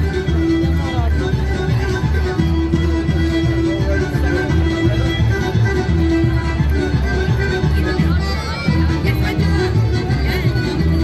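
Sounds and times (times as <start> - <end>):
folk dance music: 0.0 - 11.0.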